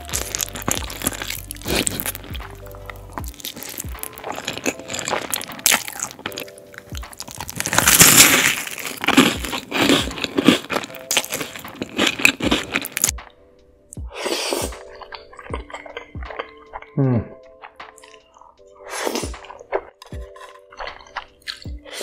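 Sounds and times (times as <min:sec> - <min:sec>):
crunching and chewing bread: 0:00.0 - 0:13.3, 0:14.7 - 0:22.0.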